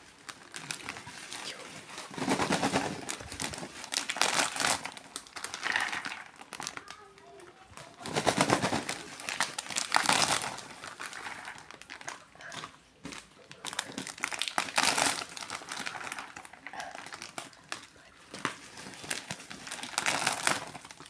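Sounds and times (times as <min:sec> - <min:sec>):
plastic snack packets crinkling: 0:00.0 - 0:21.0.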